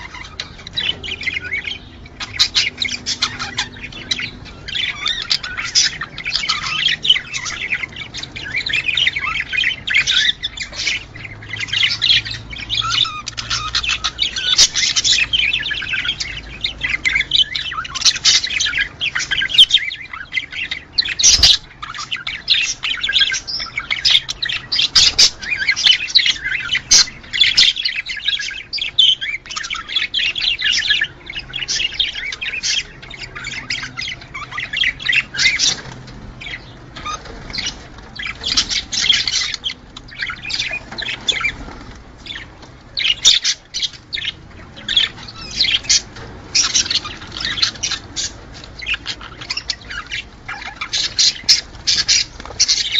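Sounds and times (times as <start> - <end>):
budgerigars chattering: 0.0 - 52.9.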